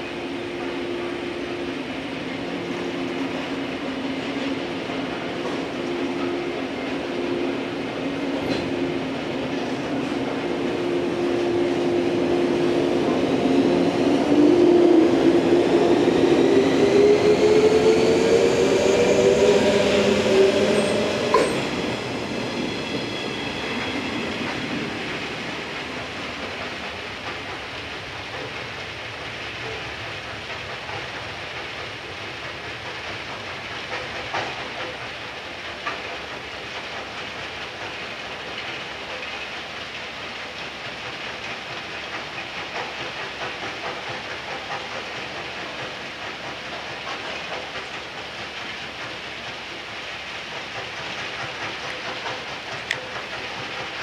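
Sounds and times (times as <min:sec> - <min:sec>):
train noise hiss: 0:00.0 - 0:54.0.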